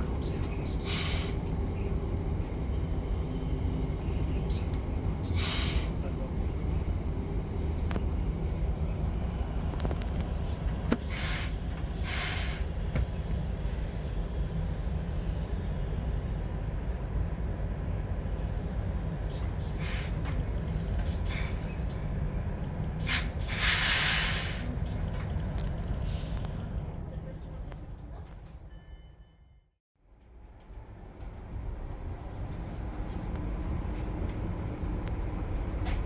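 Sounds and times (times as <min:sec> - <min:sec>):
train rumble: 0:00.0 - 0:29.2, 0:30.0 - 0:36.0.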